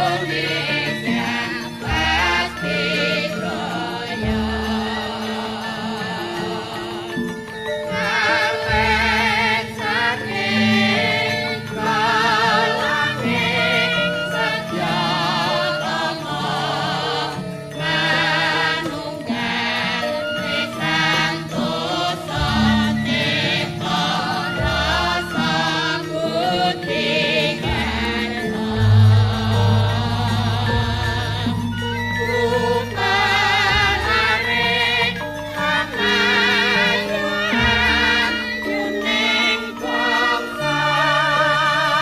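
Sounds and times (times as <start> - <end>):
metallophones and gongs: 0.0 - 42.0
voices singing with vibrato: 0.0 - 42.0.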